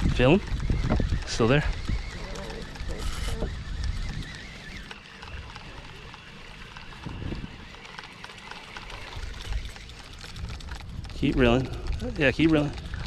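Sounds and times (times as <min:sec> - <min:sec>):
wind on microphone: 0:00.0 - 0:05.8, 0:06.8 - 0:07.8, 0:08.8 - 0:13.0.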